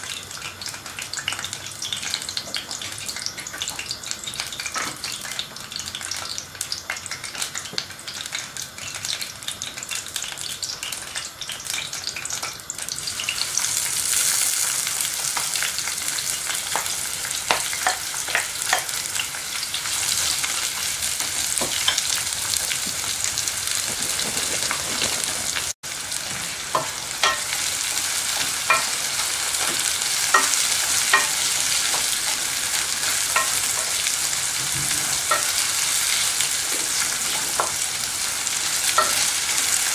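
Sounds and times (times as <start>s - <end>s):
oil sizzling in a pot: 0.0s - 39.9s.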